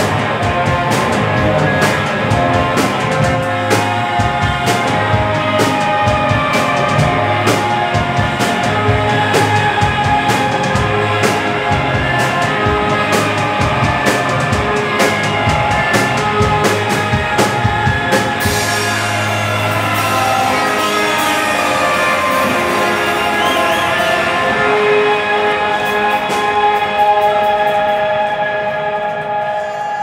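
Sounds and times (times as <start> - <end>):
drum kit hits: 0.0 - 24.8
electric guitar: 0.0 - 30.0.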